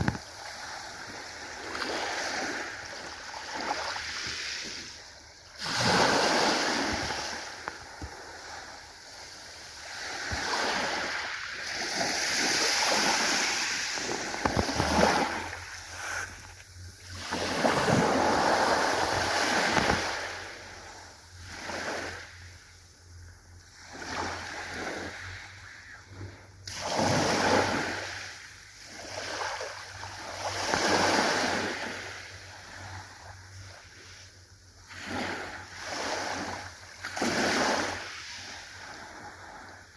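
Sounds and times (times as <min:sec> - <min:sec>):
ocean waves washing ashore: 0:00.0 - 0:22.9, 0:23.6 - 0:39.9.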